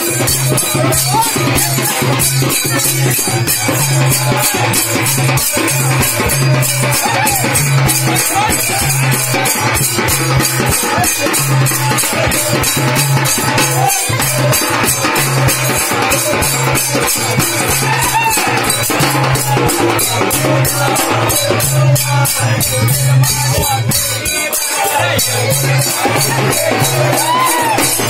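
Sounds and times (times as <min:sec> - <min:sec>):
high rattling beat: 0:00.0 - 0:28.0
stick-beaten frame drum: 0:00.0 - 0:28.0.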